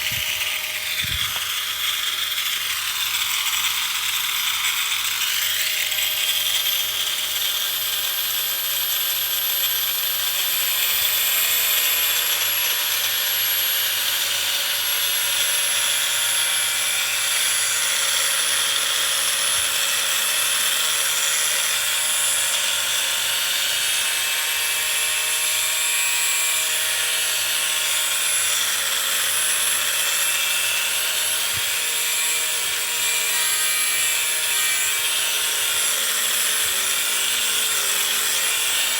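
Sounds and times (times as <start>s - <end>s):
power tool whining: 0.0s - 38.9s.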